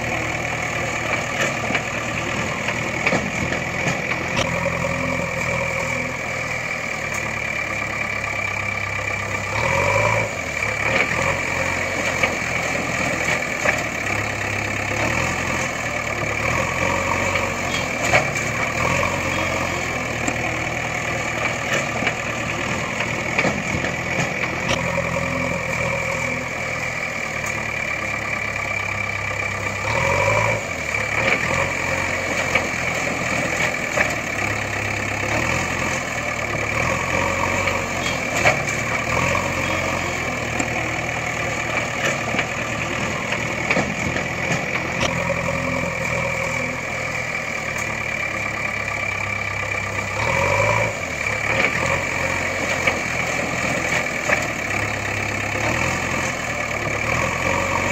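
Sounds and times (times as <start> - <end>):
heavy vehicle engine idling: 0.0 - 57.9.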